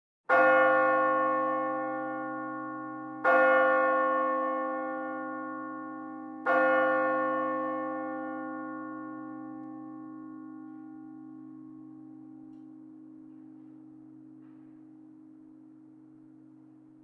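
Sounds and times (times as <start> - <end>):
tower bell tolling: 0.3 - 17.0.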